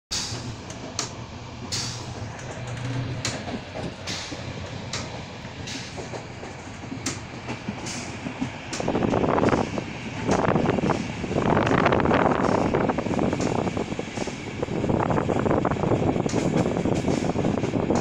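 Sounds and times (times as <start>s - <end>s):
track clacks: 0.1s - 18.0s
train carriage rumbling on track: 0.1s - 18.0s.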